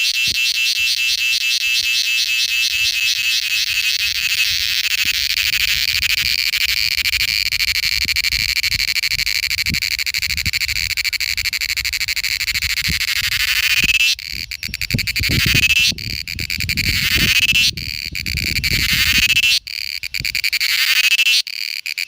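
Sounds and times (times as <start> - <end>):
cicada buzzing: 0.0 - 22.0.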